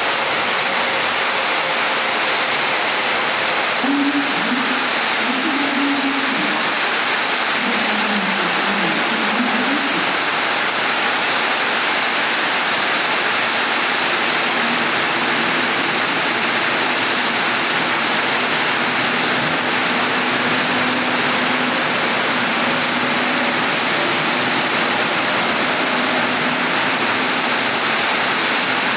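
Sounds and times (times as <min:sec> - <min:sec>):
faint inverter whine rising: 0:00.0 - 0:28.9
train wheel and running noise: 0:00.0 - 0:28.9.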